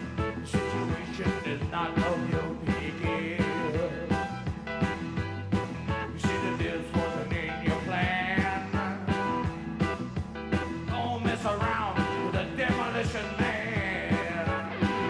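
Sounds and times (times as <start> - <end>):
bass: 0.0 - 15.0
electric guitar lead line: 0.0 - 15.0
rock band playing: 0.0 - 15.0.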